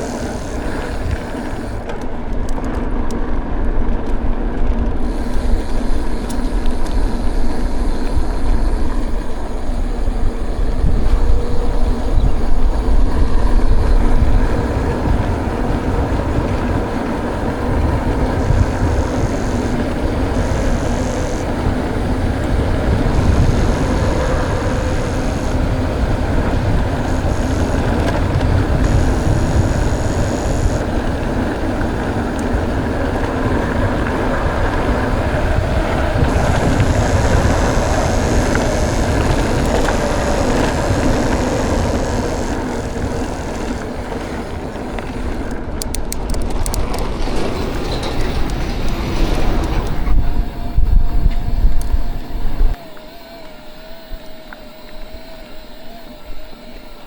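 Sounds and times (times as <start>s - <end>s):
tyres rumbling over dirt: 0.0s - 52.7s
wind buffeting microphone: 0.0s - 52.8s.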